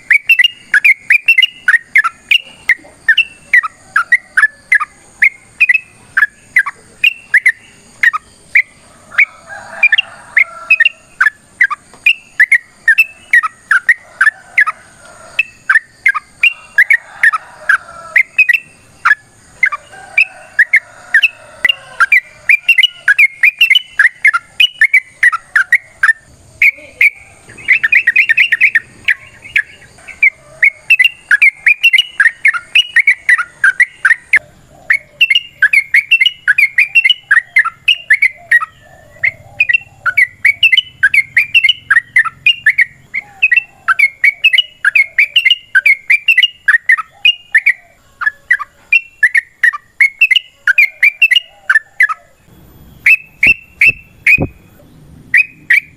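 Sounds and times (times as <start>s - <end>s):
bird singing bubbly chirps: 0.0s - 55.9s.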